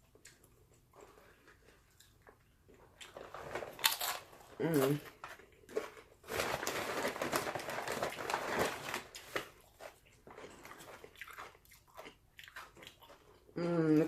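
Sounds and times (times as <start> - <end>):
chewing crunchy food: 0.0 - 6.3, 8.9 - 14.0.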